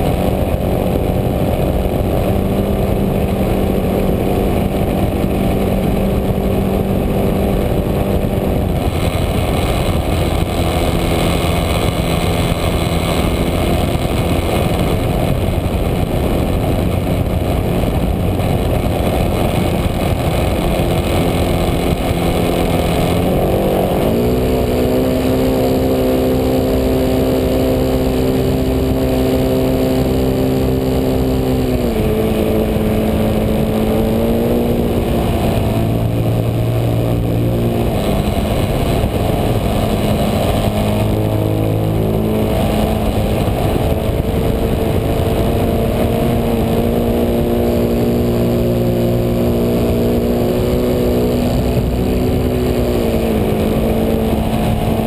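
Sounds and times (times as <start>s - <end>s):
rushing air noise: 0.0s - 55.0s.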